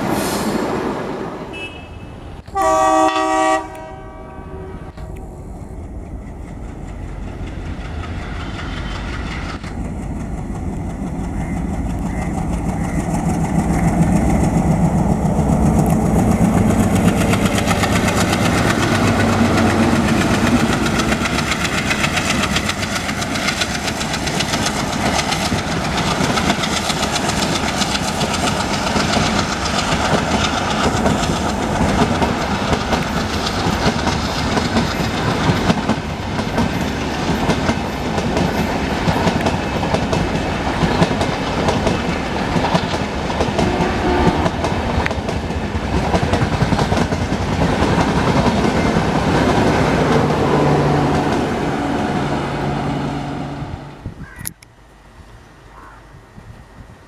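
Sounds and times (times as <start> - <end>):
diesel locomotive engine drone: 0.0 - 57.0
train wheels clattering on rails: 4.9 - 52.8.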